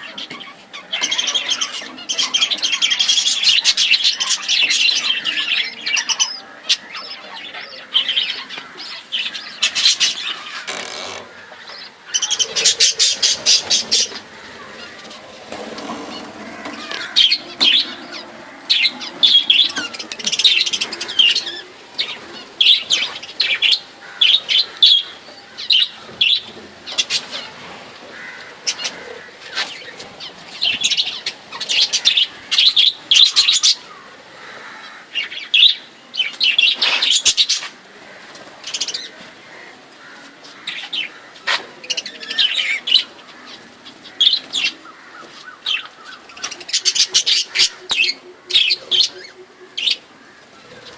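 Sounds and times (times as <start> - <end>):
budgerigars chirping: 0.0 - 34.0, 41.8 - 50.9.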